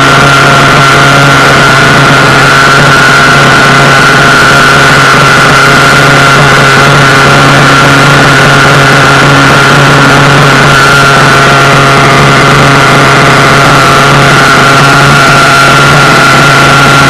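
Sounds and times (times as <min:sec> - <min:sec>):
model car engine idling: 0:00.0 - 0:17.0.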